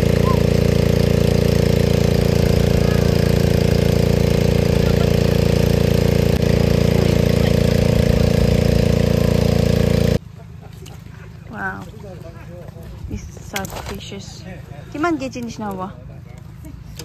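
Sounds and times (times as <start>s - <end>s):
engine droning steadily: 0.0s - 13.9s.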